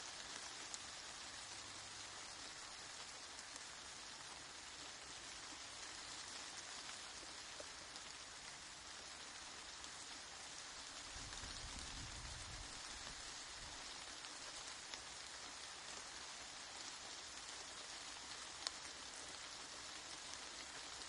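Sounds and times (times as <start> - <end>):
rain pattering: 0.0 - 21.0.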